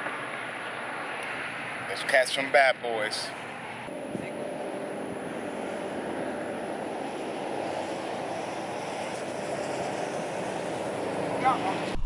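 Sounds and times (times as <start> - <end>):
highway traffic: 0.0 - 12.0.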